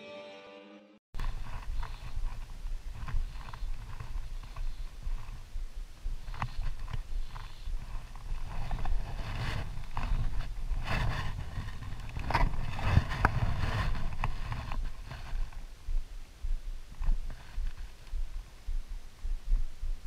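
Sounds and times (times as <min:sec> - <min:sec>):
steady low rumble: 0:01.2 - 0:20.0.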